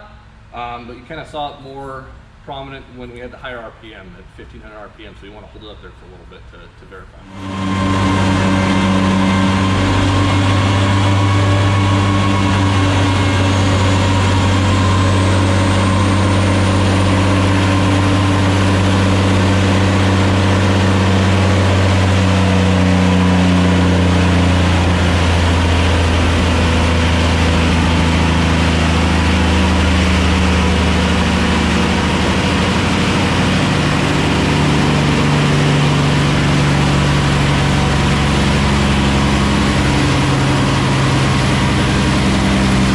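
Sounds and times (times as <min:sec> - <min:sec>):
diesel engine running: 0:07.2 - 0:42.9.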